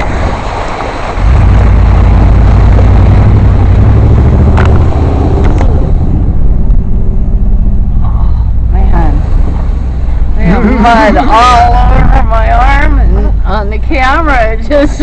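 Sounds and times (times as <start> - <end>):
truck engine pulling hard: 0.0 - 15.0.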